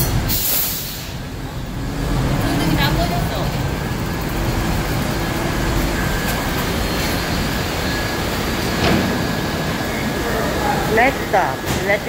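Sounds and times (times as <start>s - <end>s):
subway train rumble and hum: 0.0s - 12.0s.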